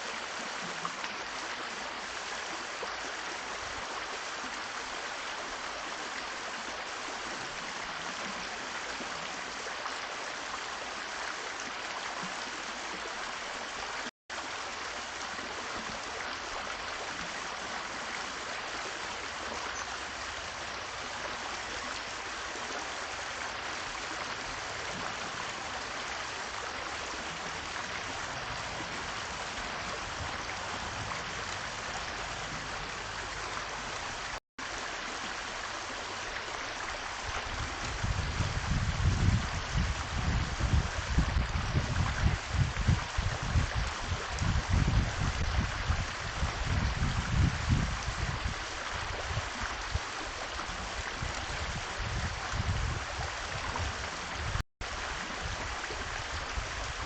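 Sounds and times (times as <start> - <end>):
steady rushing water: 0.0 - 57.0.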